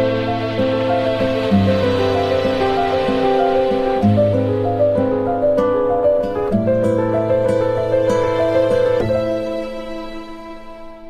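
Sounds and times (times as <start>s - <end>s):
gentle plucked instrumental music: 0.0s - 11.0s.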